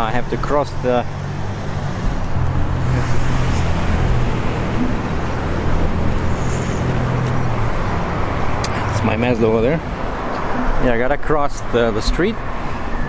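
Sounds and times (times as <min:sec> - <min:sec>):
road noise: 0:00.0 - 0:13.0
vehicle engines humming: 0:00.0 - 0:13.0.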